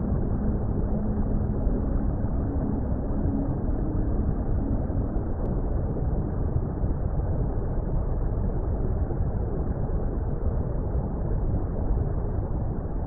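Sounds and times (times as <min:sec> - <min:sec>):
deep underwater rumble: 0:00.0 - 0:13.0.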